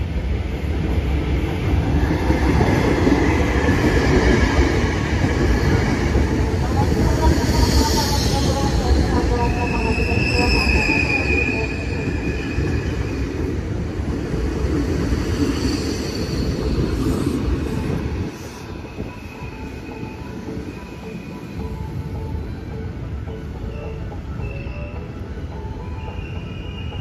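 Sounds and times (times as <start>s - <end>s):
electric train running past: 0.0s - 27.0s
high steady train tones: 0.0s - 27.0s.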